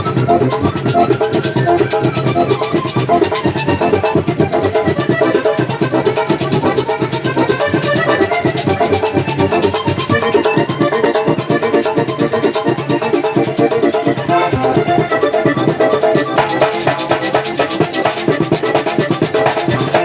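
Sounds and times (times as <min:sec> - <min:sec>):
fast accordion-led folk music: 0:00.0 - 0:20.0.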